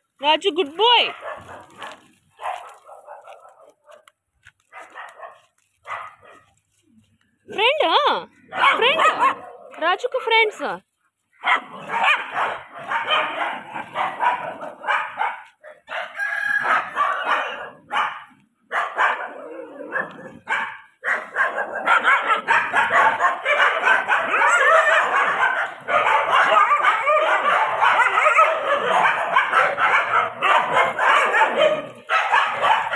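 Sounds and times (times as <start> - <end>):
dogs barking and yelping: 0.8 - 6.6, 7.8 - 10.5, 11.3 - 32.9.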